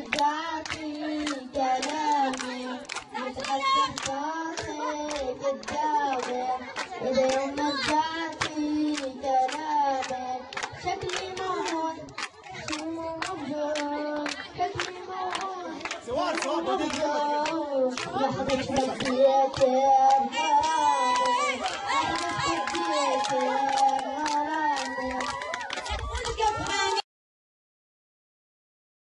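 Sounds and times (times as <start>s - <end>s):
boy singing: 0.0s - 27.0s
crowd clapping along: 0.0s - 27.0s.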